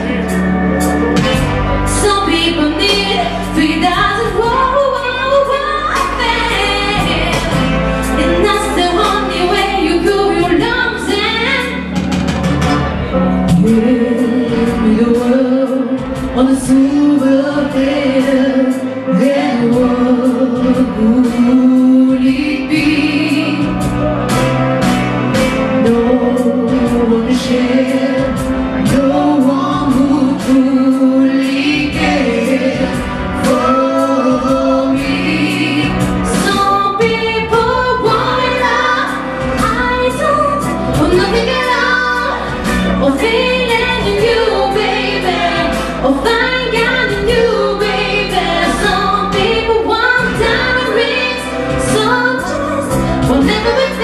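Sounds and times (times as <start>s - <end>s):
vocal group singing in harmony: 0.0s - 12.0s, 13.0s - 24.6s, 25.5s - 54.0s
woman singing lead: 0.0s - 54.0s.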